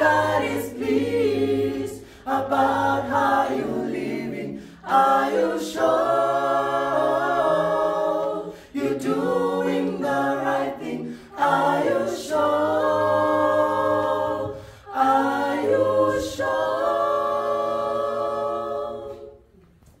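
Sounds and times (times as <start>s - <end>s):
group singing a cappella: 0.0s - 19.7s.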